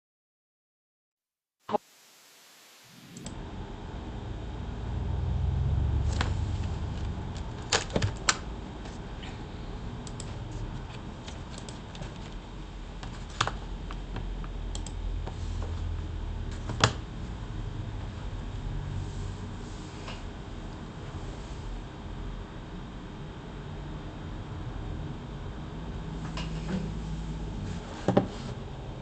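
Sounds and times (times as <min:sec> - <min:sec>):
low rumble of room noise: 0:03.2 - 0:29.0.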